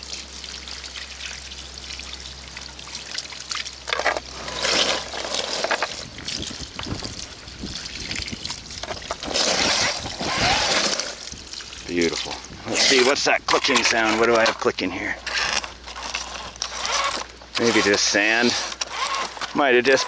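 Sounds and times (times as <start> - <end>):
hose water spraying: 3.8 - 20.0.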